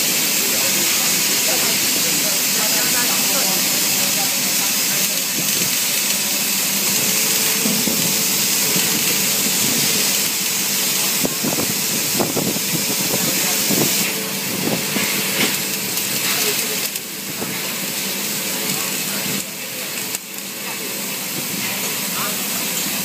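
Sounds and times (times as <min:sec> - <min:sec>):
welding arc hissing and crackling: 0:00.0 - 0:23.0.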